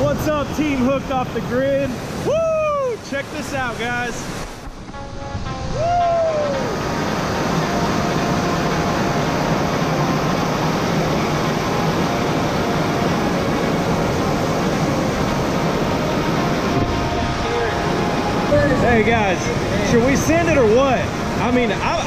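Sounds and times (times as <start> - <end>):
whitewater rushing over rocks: 0.0 - 22.0.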